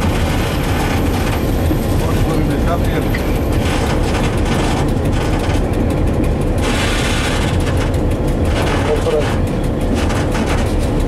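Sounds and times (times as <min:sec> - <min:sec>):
diesel locomotive engine and wheel rumble: 0:00.0 - 0:11.0.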